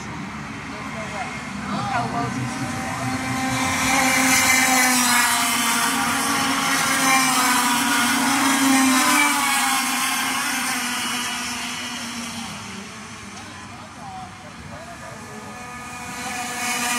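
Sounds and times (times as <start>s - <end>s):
go-kart engines whining: 0.0s - 16.9s.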